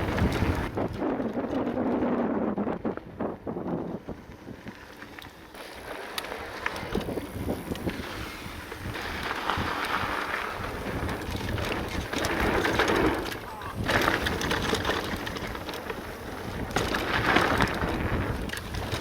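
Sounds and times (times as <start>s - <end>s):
bike clicks and rattles: 0.0s - 19.0s
bike tyres rolling over dirt: 0.0s - 19.0s
wind buffeting microphone: 0.0s - 19.0s.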